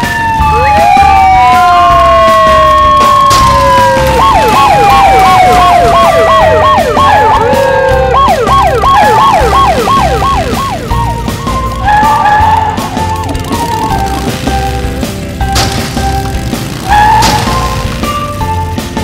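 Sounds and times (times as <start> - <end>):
cartoon siren wailing yelp: 0.0 - 14.3, 16.8 - 18.5
music with low pulsing beat: 0.9 - 19.0.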